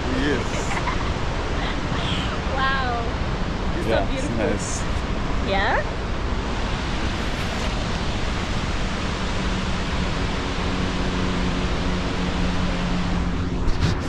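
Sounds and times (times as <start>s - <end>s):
waterfall rushing: 0.0s - 5.4s, 6.4s - 13.3s.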